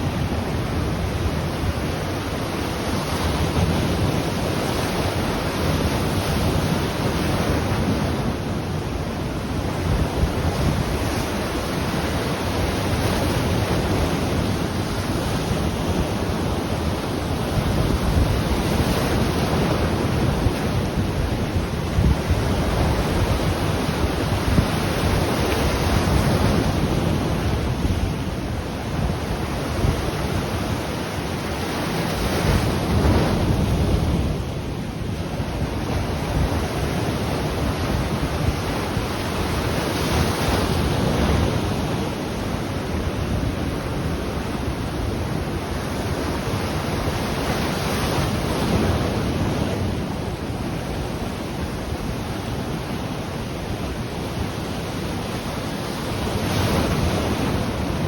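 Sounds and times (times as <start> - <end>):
ocean surf on shore: 0.0 - 58.0
wind rumble on microphone: 0.0 - 58.0.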